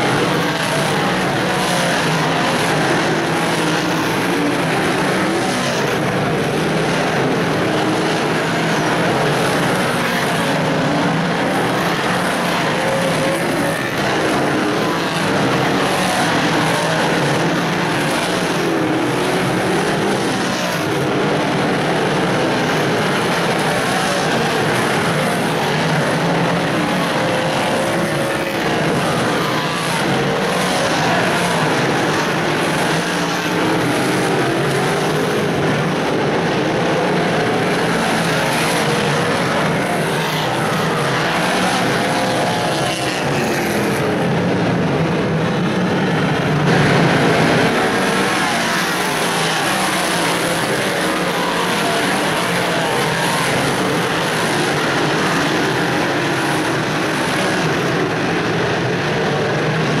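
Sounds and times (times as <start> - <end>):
race car engines droning: 0.0 - 60.0.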